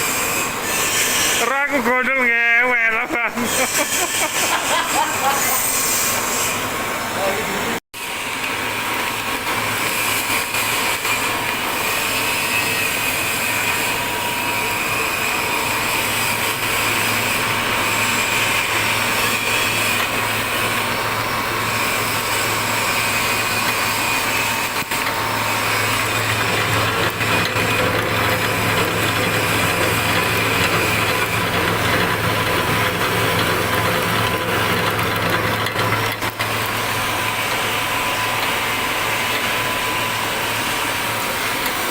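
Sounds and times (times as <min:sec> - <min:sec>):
pellet mill machine running: 0:00.0 - 0:41.9.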